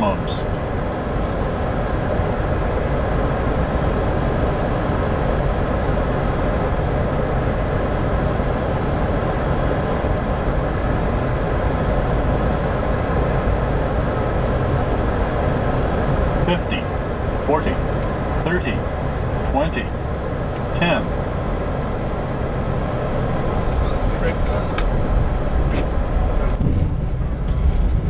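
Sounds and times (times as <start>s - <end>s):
airflow and jet engine noise: 0.0s - 28.0s.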